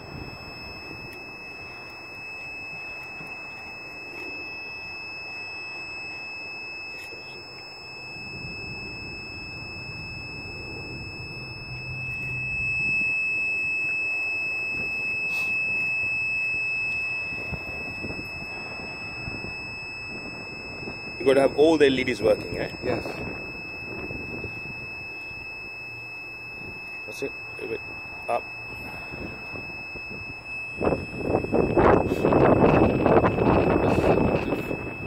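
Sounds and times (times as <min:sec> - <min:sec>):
high-pitched electronic tone: 0:00.0 - 0:35.0.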